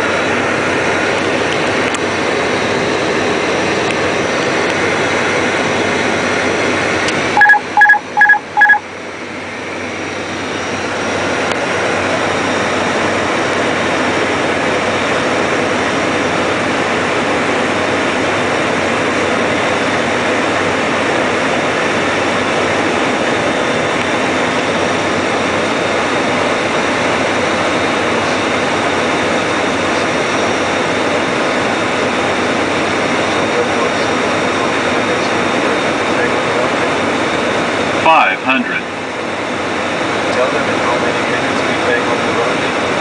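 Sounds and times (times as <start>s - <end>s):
cockpit airflow and engine noise: 0.0s - 43.0s.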